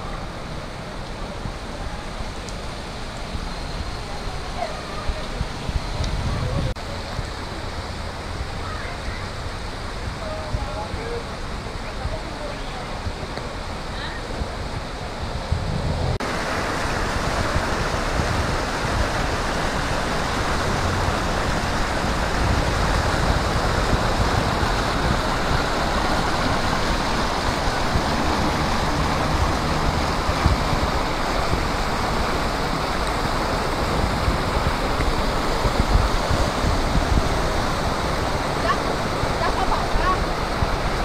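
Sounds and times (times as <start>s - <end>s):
car splashing through water: 0.0s - 41.0s
floodwater rushing: 0.0s - 41.0s.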